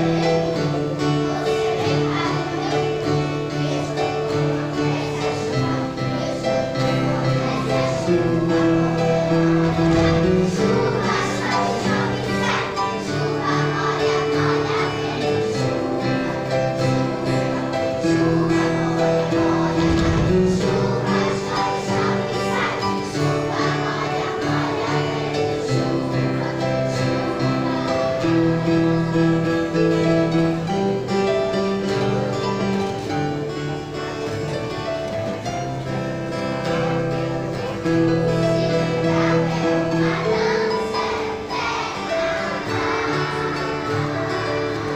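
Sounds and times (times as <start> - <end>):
children's choir singing: 0.0 - 44.9
piano: 0.0 - 44.9
strummed acoustic guitar: 0.0 - 44.9.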